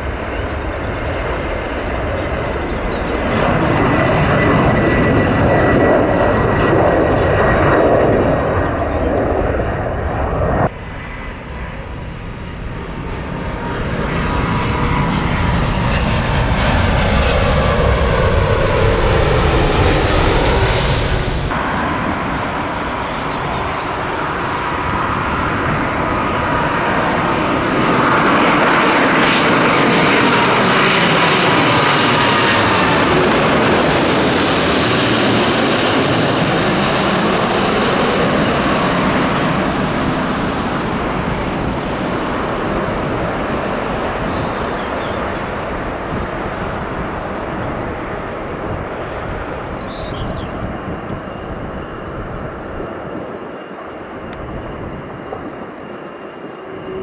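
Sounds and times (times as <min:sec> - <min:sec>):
jet airliner flying past: 0:00.0 - 0:57.0.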